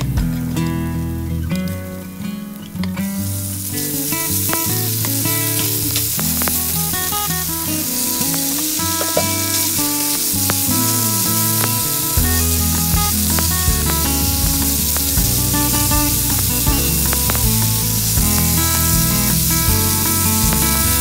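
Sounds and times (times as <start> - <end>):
acoustic guitar music: 0.0 - 21.0
meat sizzling in a frying pan: 3.5 - 21.0.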